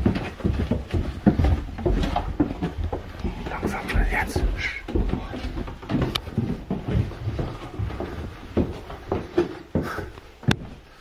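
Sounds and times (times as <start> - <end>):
footsteps and shuffling: 0.0 - 11.0.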